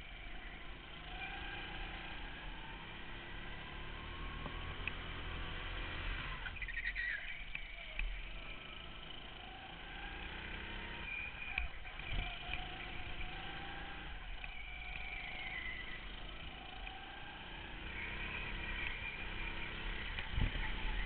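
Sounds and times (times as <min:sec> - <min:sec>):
go-kart engine running hard: 0:00.0 - 0:21.0.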